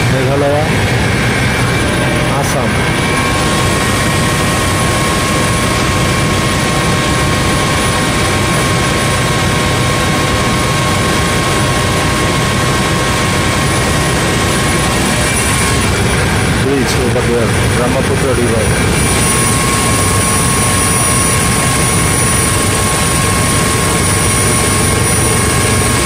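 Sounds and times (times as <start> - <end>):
helicopter rotor and engine rumble: 0.0 - 26.0
turbine whining tones: 0.0 - 26.0.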